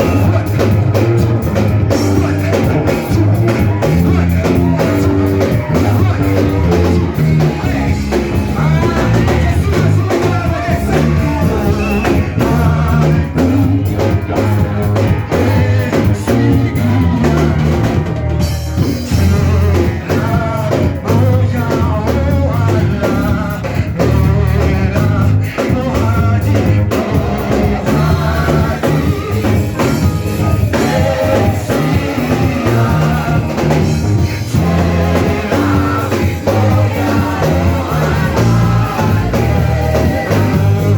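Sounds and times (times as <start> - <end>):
band playing praise music: 0.0 - 40.9
people singing: 0.0 - 40.9.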